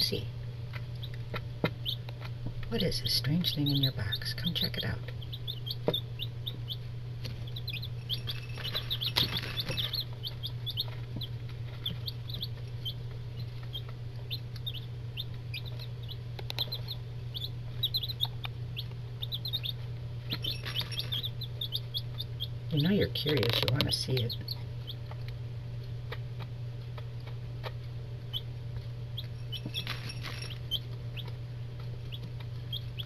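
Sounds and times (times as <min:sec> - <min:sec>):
chicks peeping: 0:00.0 - 0:33.0
steady low hum: 0:00.0 - 0:33.0.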